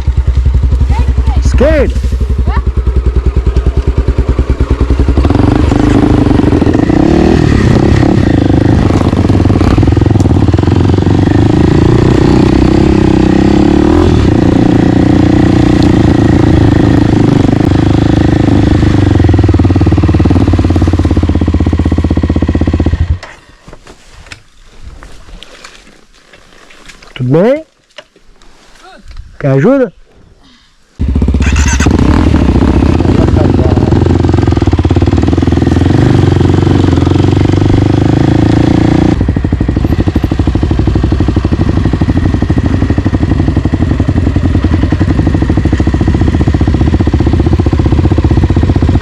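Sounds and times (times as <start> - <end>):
dirt bike engine: 0.0 - 23.7, 30.4 - 49.0.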